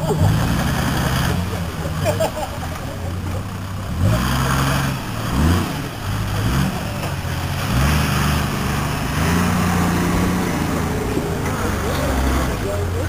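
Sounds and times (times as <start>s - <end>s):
engine revving in bursts: 0.0s - 13.0s.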